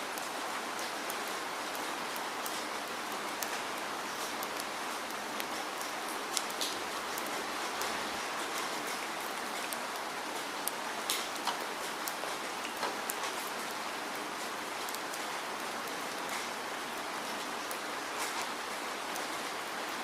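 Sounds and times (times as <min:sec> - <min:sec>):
raindrops ticking on surface: 0:00.0 - 0:20.0
steady rainfall hiss: 0:00.0 - 0:20.0.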